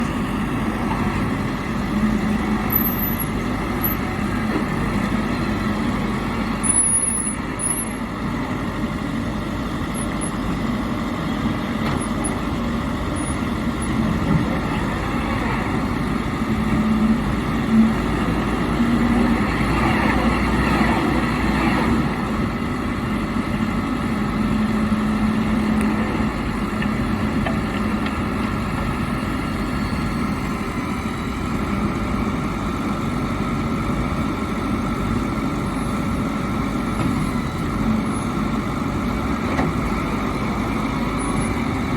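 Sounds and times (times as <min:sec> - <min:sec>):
backhoe loader engine running: 0:00.0 - 0:41.9.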